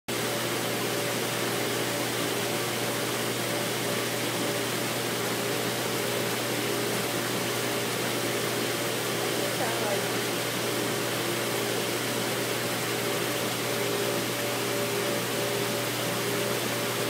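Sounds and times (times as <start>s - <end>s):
aquarium filter pumps humming: 0.1s - 17.0s.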